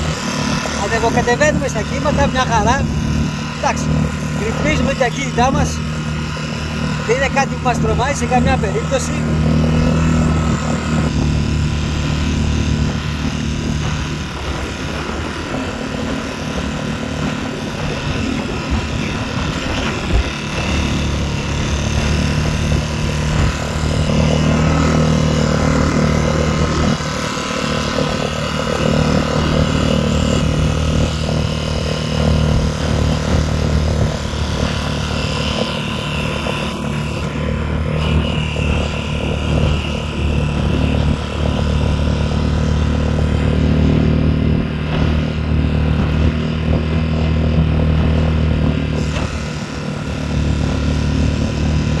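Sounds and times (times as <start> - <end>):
outboard motor running: 0.0 - 52.0
wind: 0.0 - 52.0.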